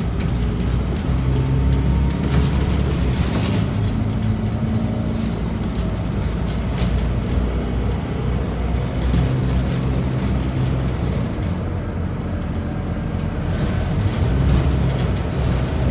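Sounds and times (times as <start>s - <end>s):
diesel bus engine running: 0.0s - 15.9s
road noise: 0.0s - 15.9s.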